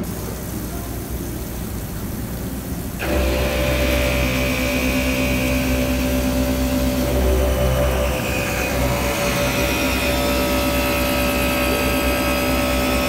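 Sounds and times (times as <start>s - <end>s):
cutting hiss: 0.0s - 13.0s
milling machine rumble: 0.0s - 13.0s
steady whining tones: 0.0s - 13.0s.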